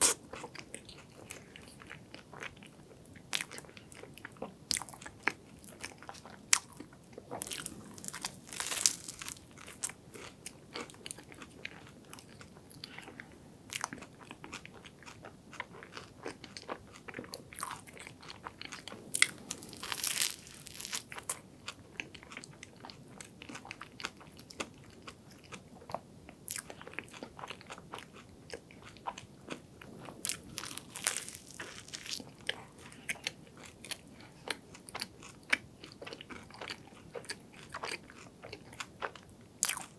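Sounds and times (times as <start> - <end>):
crunching and chewing pastry: 0.0 - 39.9.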